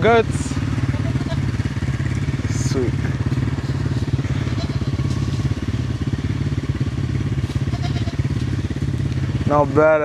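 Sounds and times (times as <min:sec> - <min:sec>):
quad bike engine chugging: 0:00.0 - 0:10.0.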